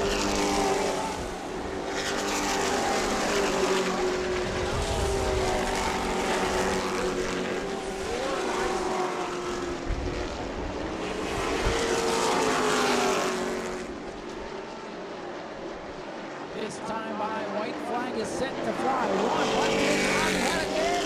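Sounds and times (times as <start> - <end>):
race truck engines passing: 0.0 - 21.0.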